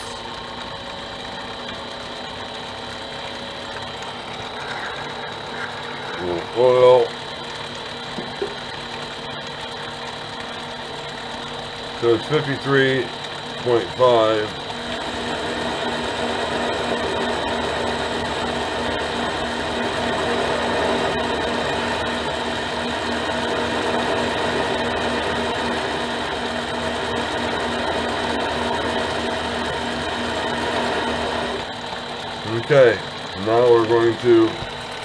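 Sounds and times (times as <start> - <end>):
lathe motor humming: 0.0 - 35.0.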